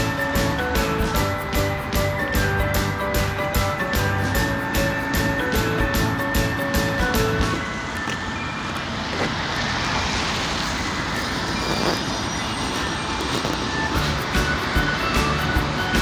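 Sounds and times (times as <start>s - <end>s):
background music: 0.0s - 9.7s, 12.6s - 16.0s
steady rushing noise: 0.0s - 16.0s.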